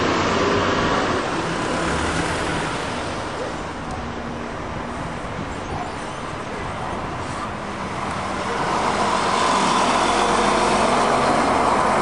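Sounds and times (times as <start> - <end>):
vehicle approaching: 0.0 - 12.0.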